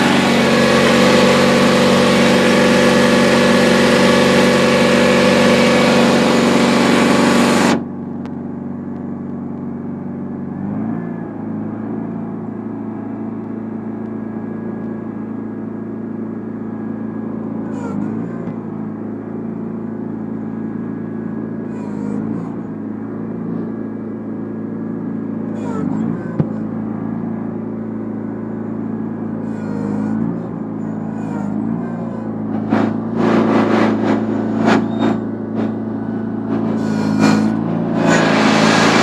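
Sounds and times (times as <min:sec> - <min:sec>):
garden tractor engine running: 0:00.0 - 0:39.0.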